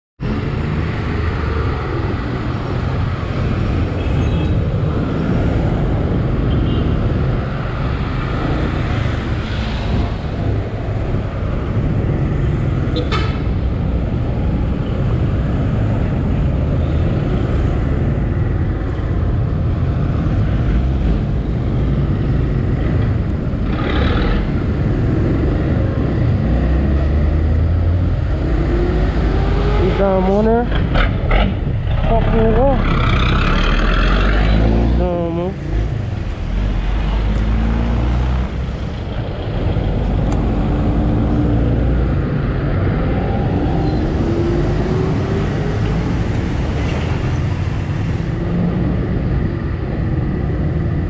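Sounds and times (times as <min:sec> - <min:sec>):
surrounding traffic: 0:00.2 - 0:51.0.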